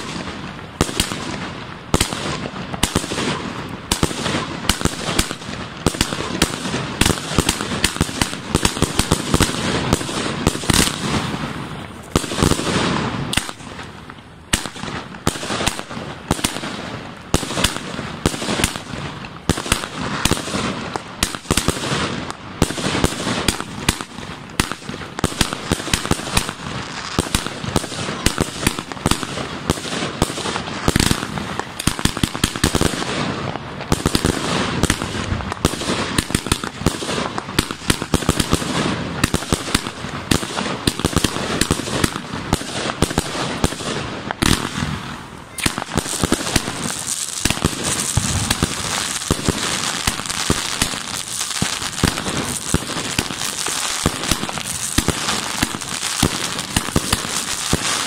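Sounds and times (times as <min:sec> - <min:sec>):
fireworks shots and bursts: 0:00.0 - 0:58.0.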